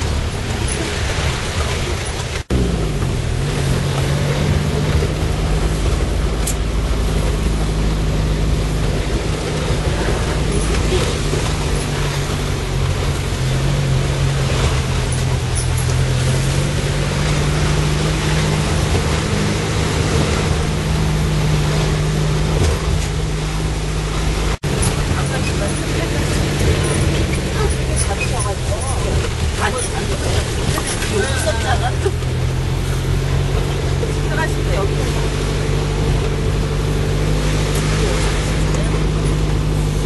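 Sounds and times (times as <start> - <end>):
car engine hum: 0.0 - 40.0
road noise: 0.0 - 40.0.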